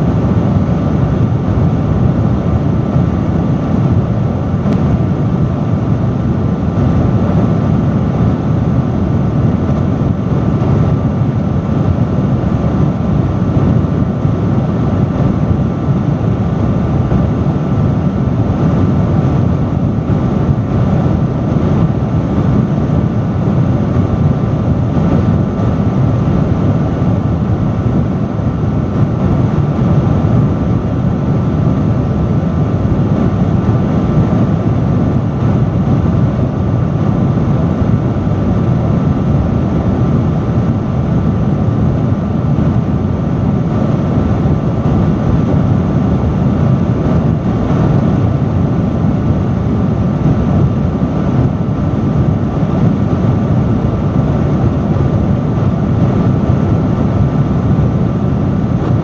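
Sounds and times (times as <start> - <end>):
industrial fan rushing air: 0.0 - 59.0.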